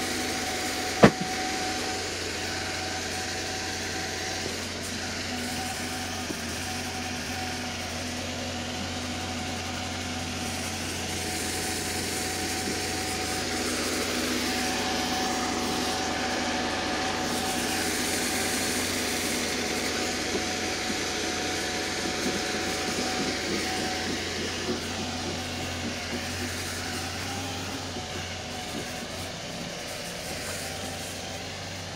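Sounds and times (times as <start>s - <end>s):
bandsaw mill cutting log: 0.0s - 31.9s
machine hum and whine: 0.0s - 31.9s.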